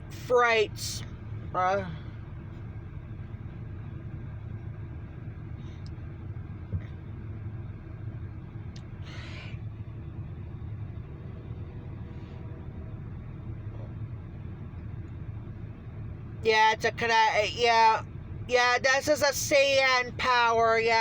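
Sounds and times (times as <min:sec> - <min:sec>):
low engine rumble: 0:00.0 - 0:21.0.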